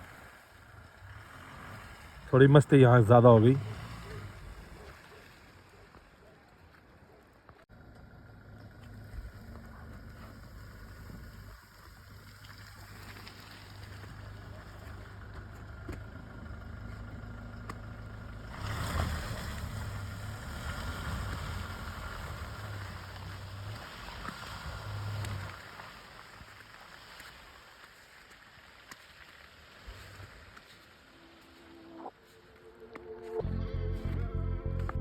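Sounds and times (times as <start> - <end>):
engine hum: 0.0 - 6.2, 7.7 - 26.7, 29.8 - 35.0
tyre and road noise: 0.0 - 35.0.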